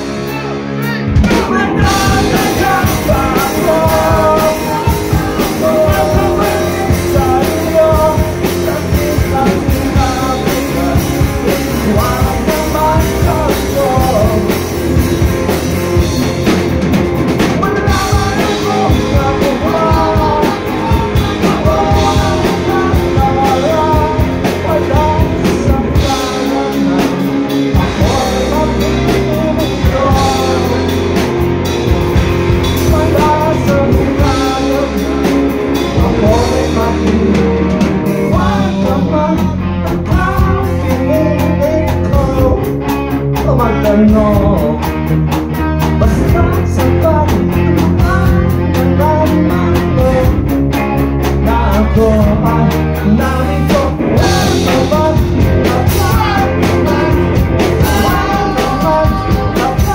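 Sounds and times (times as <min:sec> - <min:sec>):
man singing: 0:00.0 - 0:16.6, 0:17.4 - 0:59.9
live rock band playing: 0:00.0 - 0:59.9.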